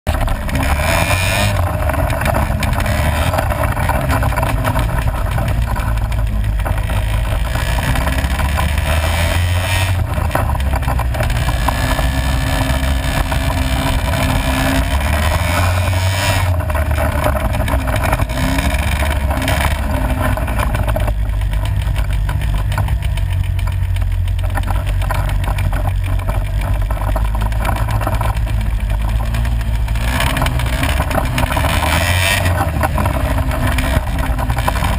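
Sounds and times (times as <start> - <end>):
quad bike engine under load: 0.0 - 34.9.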